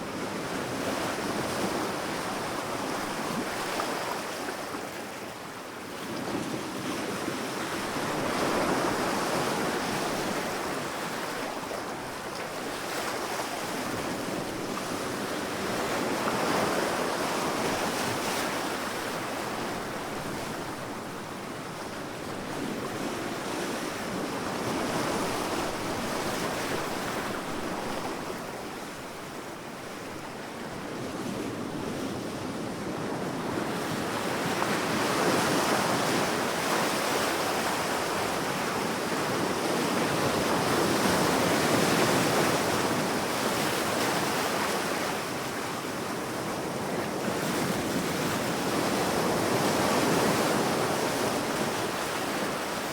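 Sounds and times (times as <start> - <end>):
sea waves breaking on a beach: 0.0 - 52.9.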